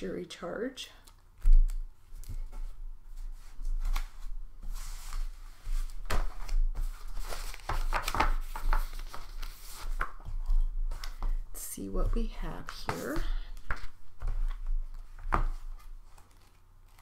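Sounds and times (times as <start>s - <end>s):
paper rustling and shuffling: 1.0s - 17.0s.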